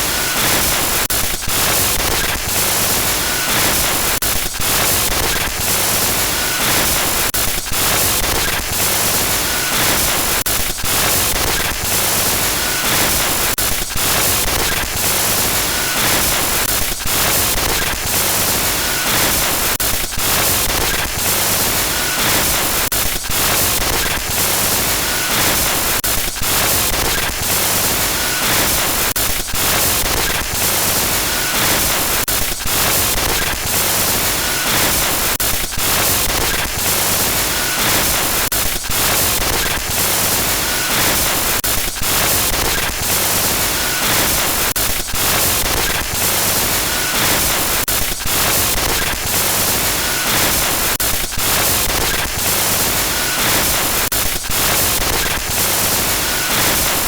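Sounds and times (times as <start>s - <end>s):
harsh glitchy static noise: 0.0s - 57.0s.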